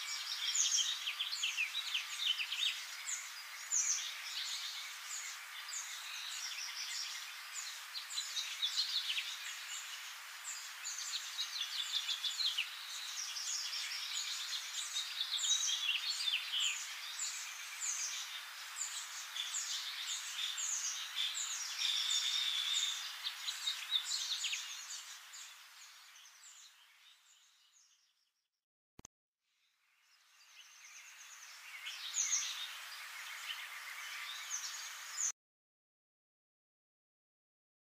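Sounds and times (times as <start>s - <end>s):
steady hiss: 0.0s - 26.8s, 30.6s - 35.3s
birds chirping: 0.0s - 28.2s, 30.1s - 35.3s.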